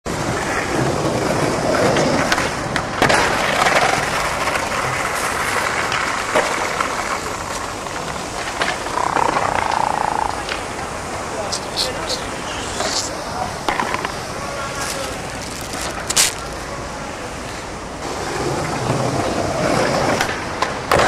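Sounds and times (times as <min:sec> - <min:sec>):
skateboard wheels rolling on stone: 0:00.1 - 0:21.0
skateboard clacking on ground: 0:00.2 - 0:10.7, 0:12.7 - 0:16.9, 0:18.0 - 0:21.0.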